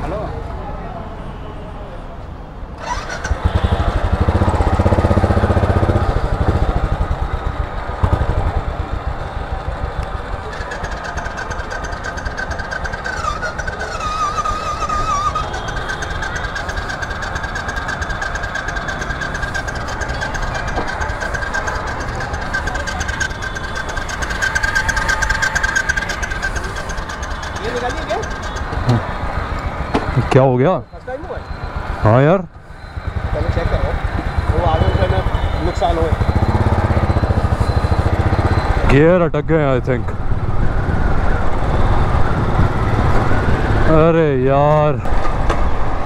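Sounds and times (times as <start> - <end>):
motorcycle engine starting and revving: 2.8 - 30.4, 31.2 - 46.0.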